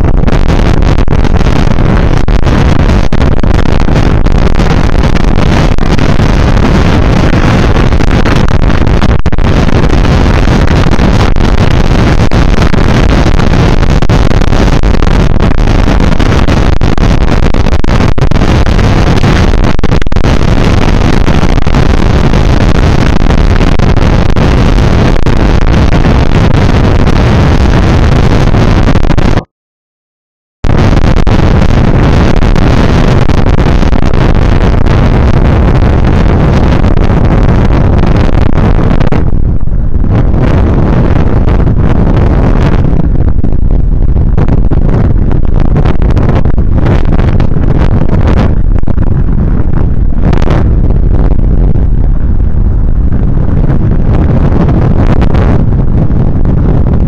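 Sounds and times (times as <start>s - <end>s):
wind rumble on microphone: 0.0s - 29.5s, 30.6s - 57.0s.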